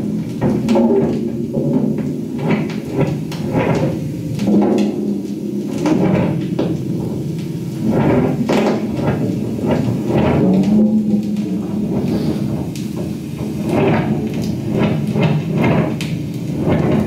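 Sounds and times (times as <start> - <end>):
low steady hum: 0.0 - 15.7
turntable knocks and thuds: 0.0 - 17.0.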